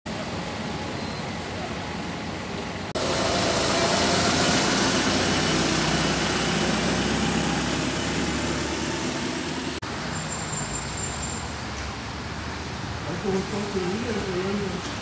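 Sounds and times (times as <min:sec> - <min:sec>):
bus engines idling: 0:00.1 - 0:15.0
traffic hum: 0:00.1 - 0:15.0.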